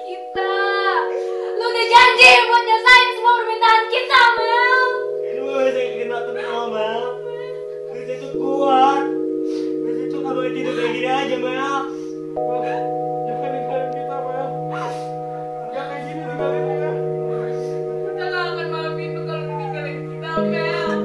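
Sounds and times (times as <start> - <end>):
sustained chords: 0.0 - 21.0.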